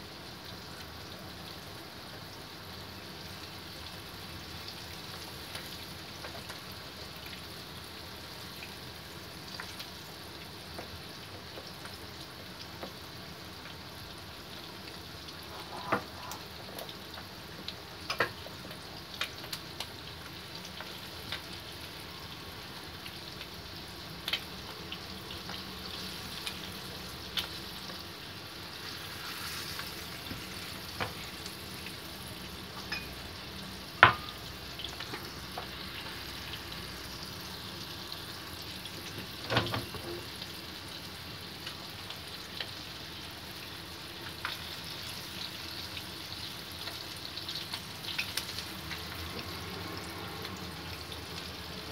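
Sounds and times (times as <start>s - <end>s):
chicken sizzling in oil: 0.0s - 51.9s.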